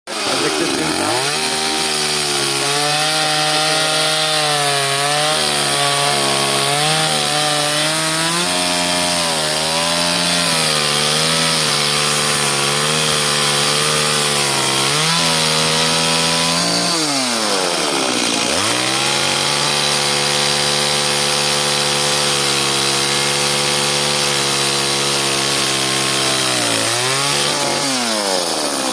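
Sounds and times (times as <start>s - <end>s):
chainsaw cutting wood: 0.1s - 28.9s.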